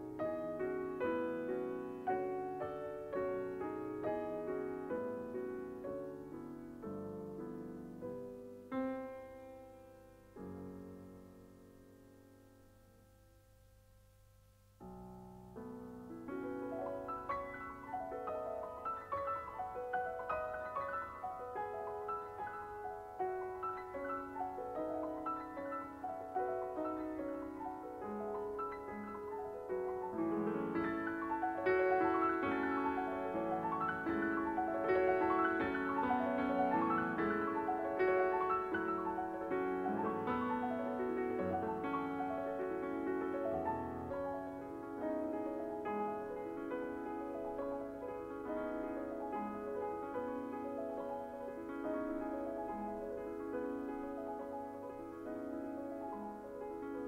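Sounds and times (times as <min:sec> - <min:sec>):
soft solo piano music: 0:00.0 - 0:13.1, 0:14.8 - 0:57.0.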